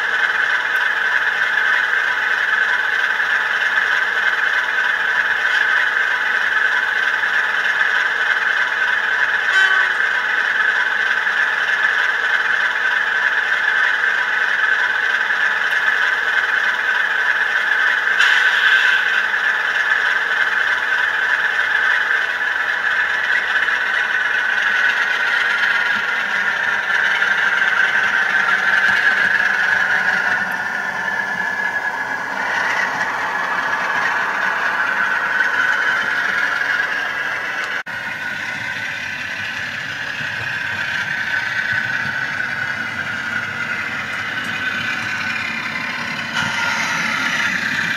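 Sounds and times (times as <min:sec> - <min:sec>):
model diesel locomotive engine: 0:00.0 - 0:47.9.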